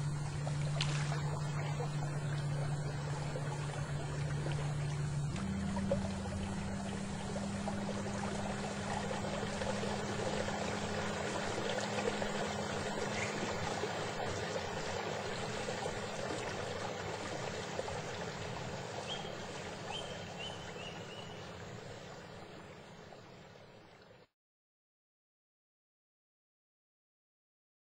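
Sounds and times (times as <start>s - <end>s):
water splashing along canoe hull: 0.0s - 22.4s
steady low hum: 0.0s - 24.2s.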